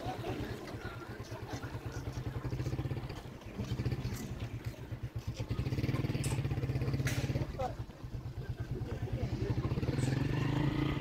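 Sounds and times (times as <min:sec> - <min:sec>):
street traffic noise: 0:00.0 - 0:11.0
vehicle engine running: 0:00.0 - 0:11.0.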